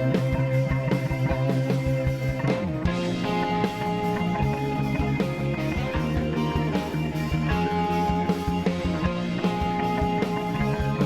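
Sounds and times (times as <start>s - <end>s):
bass guitar: 0.0s - 11.0s
driving drum beat: 0.0s - 11.0s
electric guitar: 0.0s - 11.0s.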